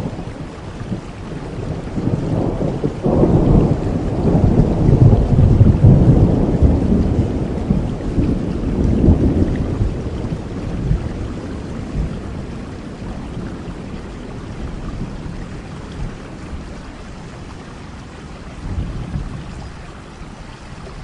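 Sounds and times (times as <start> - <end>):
rolling thunder: 0.0 - 20.0
steady rain: 0.0 - 21.0.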